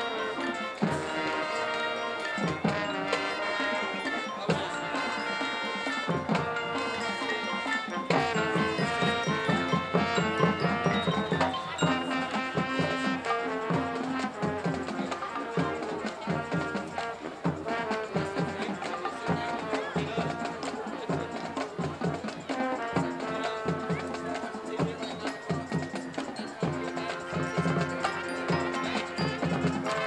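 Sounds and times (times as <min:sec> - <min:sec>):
brass and wind chords: 0:00.0 - 0:30.0
mallet percussion: 0:00.0 - 0:30.0
marching drums beat: 0:00.0 - 0:30.0.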